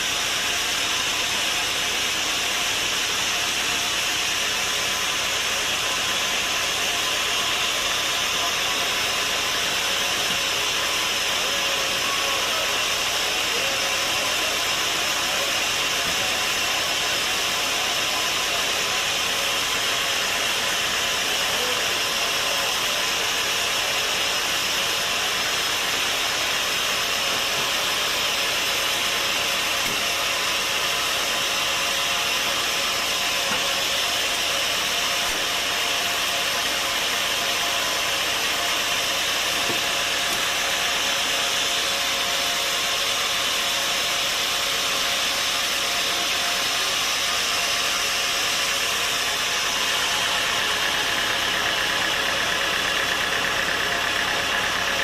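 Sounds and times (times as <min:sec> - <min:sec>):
saw whirring through wood: 0:00.0 - 0:55.0.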